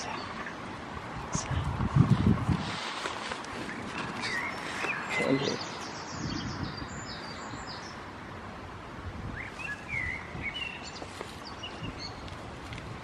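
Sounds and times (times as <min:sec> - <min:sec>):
small birds chirping: 0:00.0 - 0:01.9, 0:02.6 - 0:08.3, 0:09.3 - 0:13.0
outdoor background hiss: 0:00.0 - 0:13.0.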